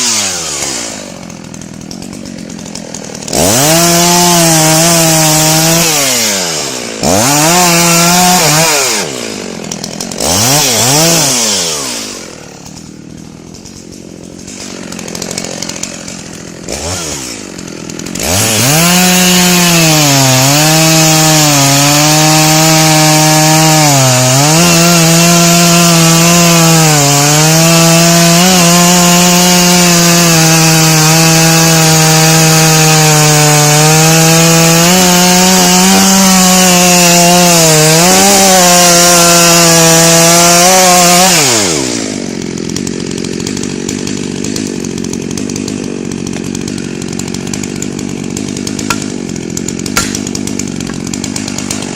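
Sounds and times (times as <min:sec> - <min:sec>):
chainsaw revving and cutting wood: 0:00.0 - 0:51.9.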